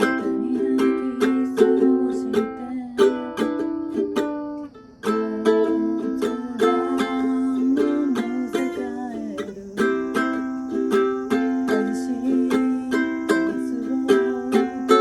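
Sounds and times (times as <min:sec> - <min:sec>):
ukulele strumming chords: 0:00.0 - 0:15.0.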